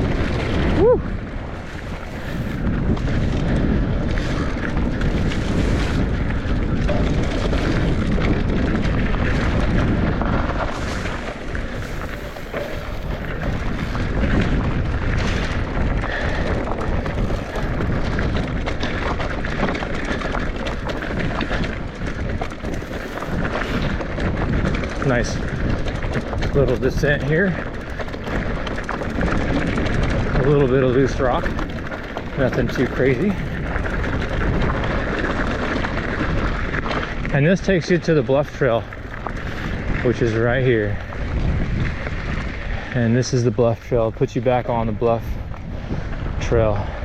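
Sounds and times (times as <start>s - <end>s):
bike knocking and rattling: 0.0s - 47.0s
tyres on dirt and rock: 0.0s - 47.0s
wind rumble on microphone: 0.0s - 47.0s.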